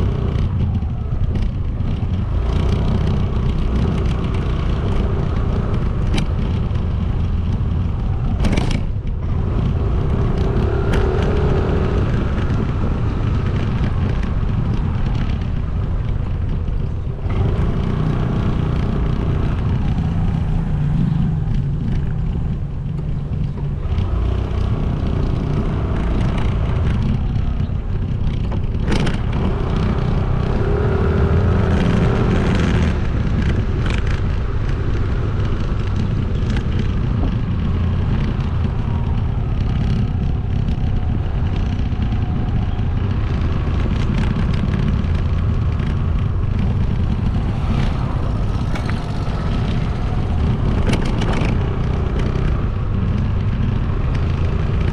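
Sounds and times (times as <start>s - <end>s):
motorcycle engine and road noise: 0.0s - 54.9s.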